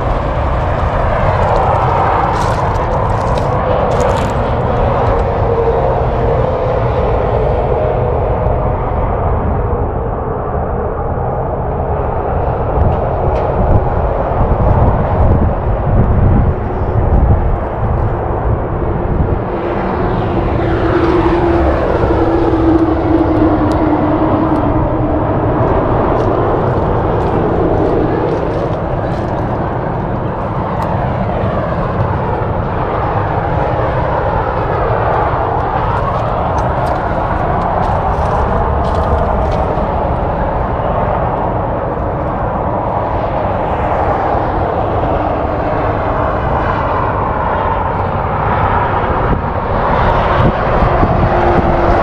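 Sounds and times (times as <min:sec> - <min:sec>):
airplane passing overhead: 0:00.0 - 0:52.0
wind rumble on microphone: 0:00.0 - 0:52.0.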